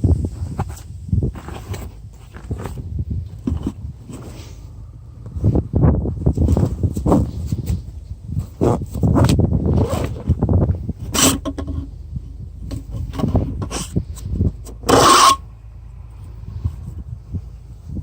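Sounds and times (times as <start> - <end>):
gear rubbing and rustling: 0.0 - 15.5.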